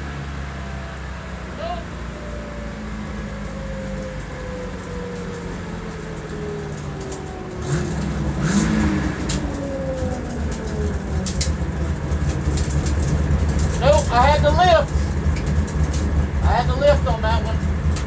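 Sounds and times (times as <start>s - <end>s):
car engine whine: 0.0s - 18.0s
engine revving: 0.0s - 18.0s.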